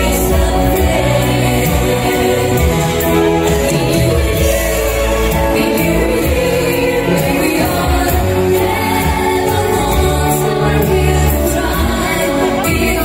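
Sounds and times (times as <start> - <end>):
pop song with singing: 0.0 - 13.0.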